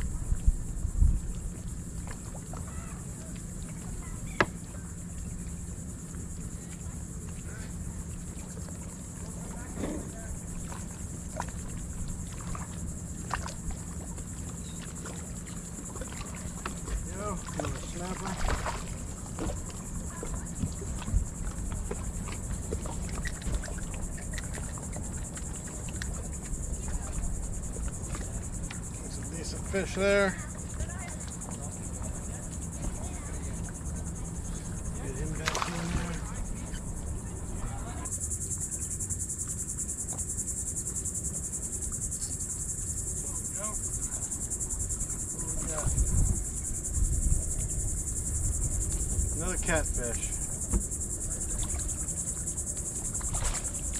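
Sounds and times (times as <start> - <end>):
high insect trill: 0.0 - 53.9.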